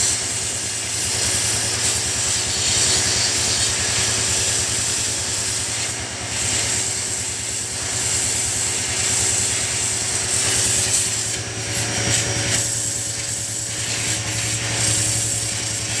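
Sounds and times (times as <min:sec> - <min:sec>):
pressure washer hum: 0:00.0 - 0:16.0
water jet spraying on chain: 0:00.0 - 0:16.0.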